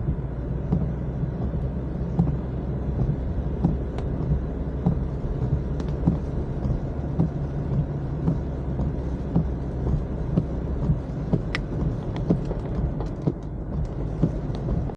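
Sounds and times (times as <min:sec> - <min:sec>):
car driving on wet road: 0:00.0 - 0:14.9
light ticks: 0:00.1 - 0:14.9.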